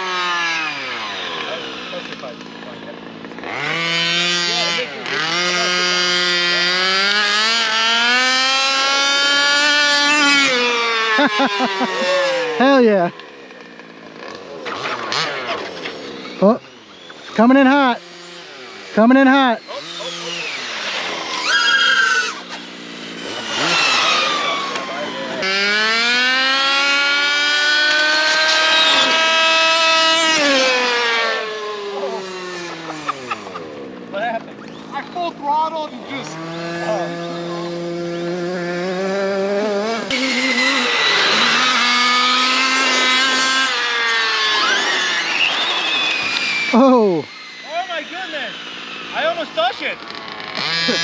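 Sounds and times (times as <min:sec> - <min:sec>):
electric motor whining: 0:00.0 - 0:51.0.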